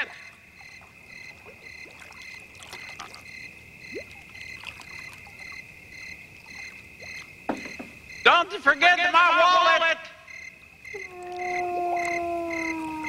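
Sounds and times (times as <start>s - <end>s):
crickets trilling: 0.0s - 13.0s
frogs pulsing chirp: 0.0s - 13.0s.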